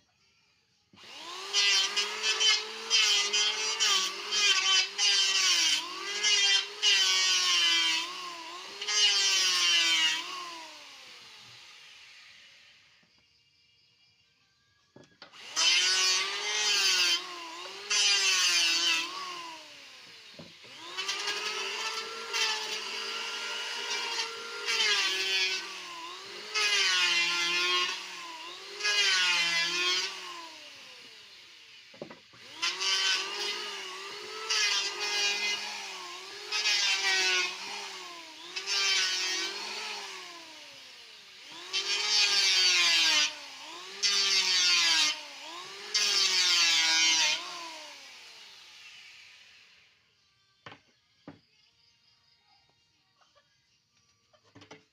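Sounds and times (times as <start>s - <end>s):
electric wood planer shaving wood: 0.9s - 13.0s, 15.2s - 49.9s.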